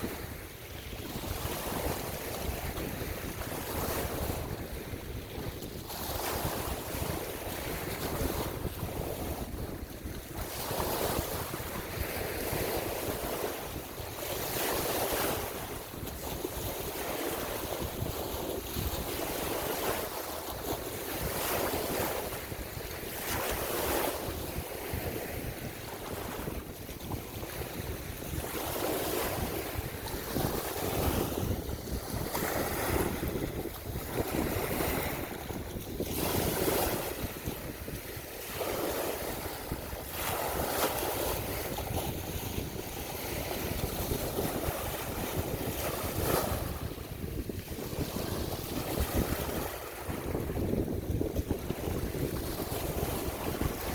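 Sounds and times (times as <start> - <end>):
surging water: 0.0 - 53.9
wind buffeting microphone: 0.0 - 53.9.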